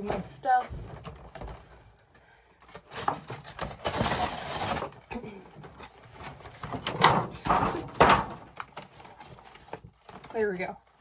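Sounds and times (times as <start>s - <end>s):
plastic and cardboard packaging rustling: 0.0s - 11.0s.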